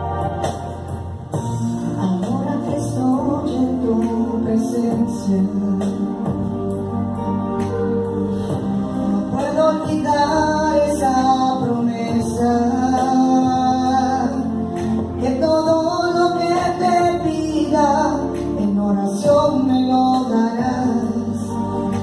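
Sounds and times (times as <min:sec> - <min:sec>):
electronic keyboard: 0:00.0 - 0:22.0
woman singing: 0:01.8 - 0:06.7, 0:09.0 - 0:22.0.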